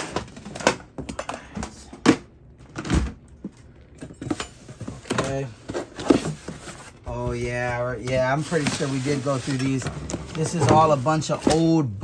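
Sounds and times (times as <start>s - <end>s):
scraping and rustling of boxes: 0.0s - 2.1s, 2.7s - 12.0s.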